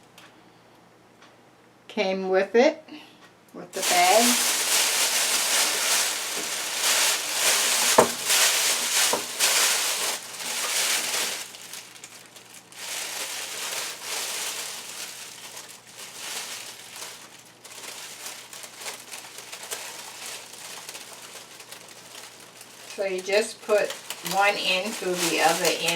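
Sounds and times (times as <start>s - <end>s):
plastic bag crinkling: 3.8s - 25.9s.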